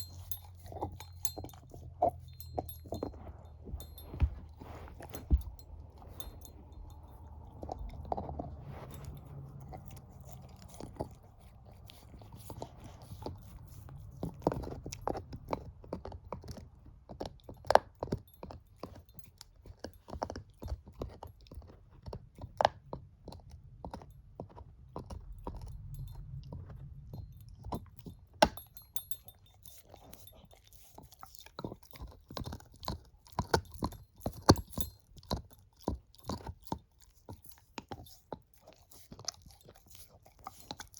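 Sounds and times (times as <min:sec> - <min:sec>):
dog crunching bone: 0:00.0 - 0:40.9
wet chewing: 0:00.0 - 0:40.9.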